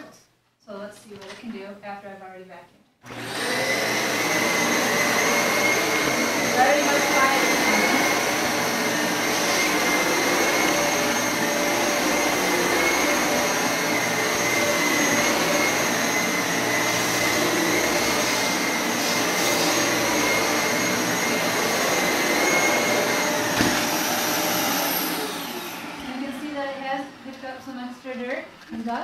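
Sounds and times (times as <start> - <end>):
vacuum cleaner running on carpet: 3.0 - 29.0.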